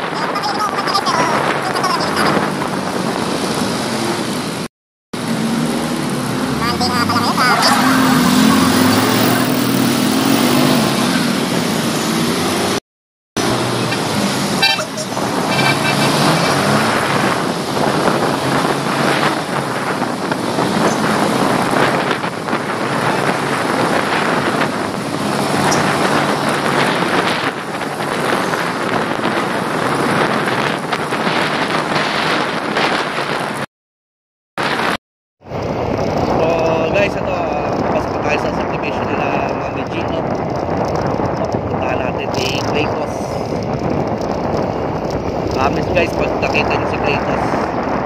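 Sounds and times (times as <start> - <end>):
motorcycle engine and road noise: 0.0 - 12.8, 13.4 - 33.7, 34.6 - 48.0
wind rushing over microphone: 0.0 - 12.8, 13.4 - 33.7, 34.6 - 48.0.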